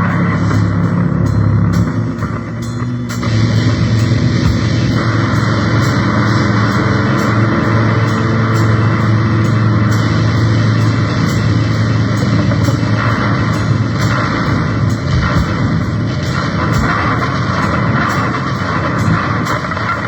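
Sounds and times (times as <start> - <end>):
distorted noise music: 0.0 - 20.0
low drone: 0.0 - 20.0.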